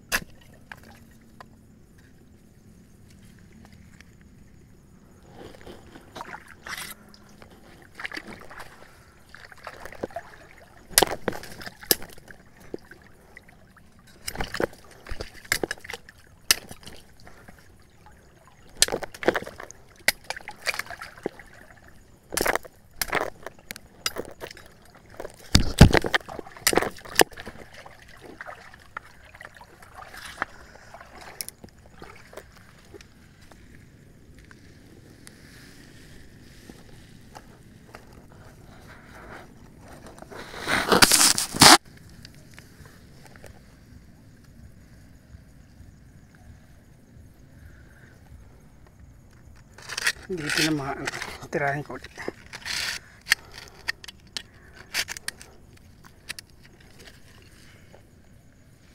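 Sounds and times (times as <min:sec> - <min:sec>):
water sloshing and gurgling: 0:00.0 - 0:58.9.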